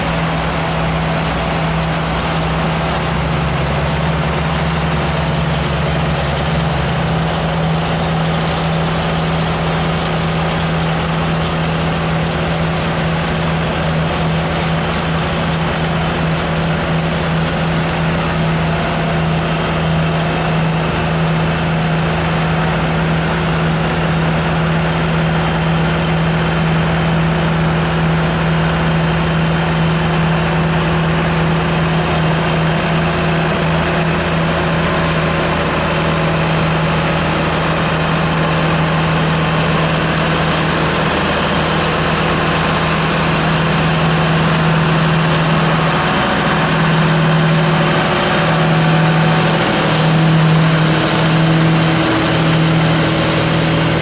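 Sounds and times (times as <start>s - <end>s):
harvester machinery working: 0.0s - 54.0s
tractor engine drone: 0.0s - 54.0s.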